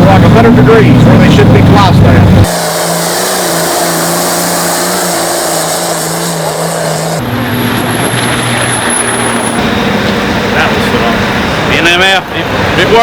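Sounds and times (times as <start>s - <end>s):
loud engines running: 0.0s - 13.0s
low-pitched engine drone: 0.0s - 13.0s.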